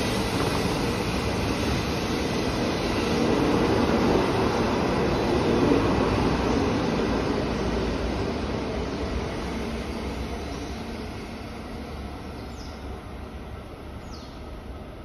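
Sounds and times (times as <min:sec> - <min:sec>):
train rumble and rail noise: 0:00.0 - 0:15.0.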